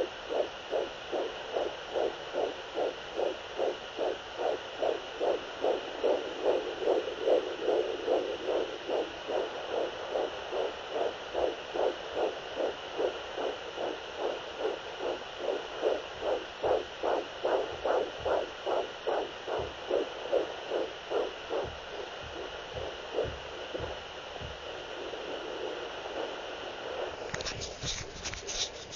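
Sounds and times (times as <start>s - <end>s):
fast heartbeat: 0.0s - 28.9s
steady hiss: 0.0s - 28.9s.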